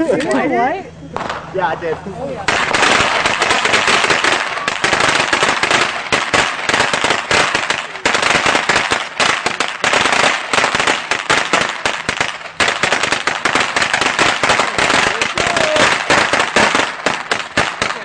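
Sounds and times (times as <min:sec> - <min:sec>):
firecrackers crackling: 0:01.1 - 0:18.0.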